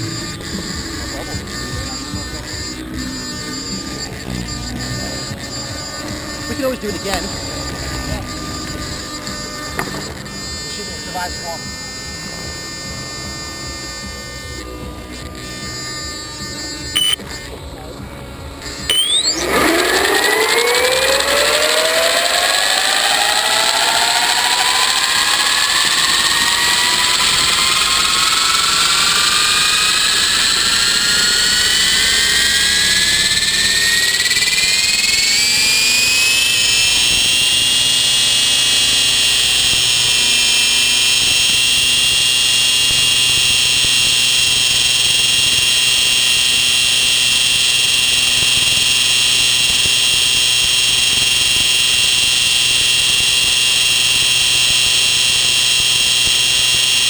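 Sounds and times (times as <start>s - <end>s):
model helicopter motor whine: 0.0s - 57.0s.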